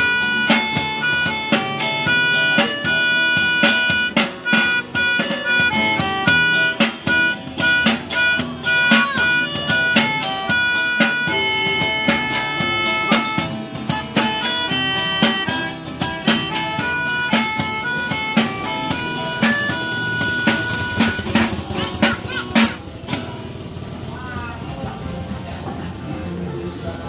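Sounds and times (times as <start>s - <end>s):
quick drum beat: 0.0s - 25.2s
melody of held notes: 0.0s - 26.4s
guitar: 0.0s - 27.0s.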